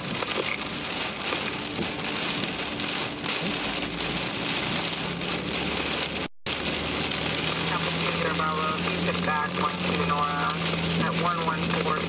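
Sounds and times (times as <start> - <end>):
heavy rain on a vehicle: 0.0 - 12.0.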